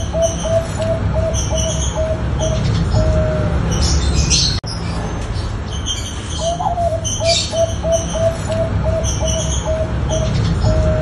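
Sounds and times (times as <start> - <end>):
dove cooing: 0.0 - 4.5, 6.4 - 11.0
small birds chirping: 0.0 - 11.0.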